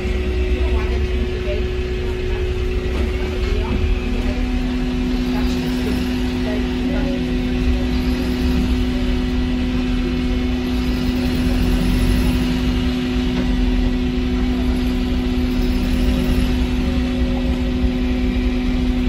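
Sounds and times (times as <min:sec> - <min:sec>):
bus cabin low rumble: 0:00.0 - 0:19.0
drivetrain hum: 0:00.0 - 0:19.0.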